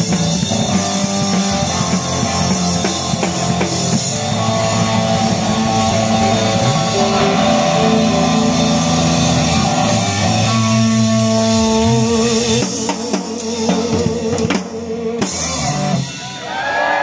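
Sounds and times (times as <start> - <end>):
rock music with electric guitars: 0.0 - 16.6.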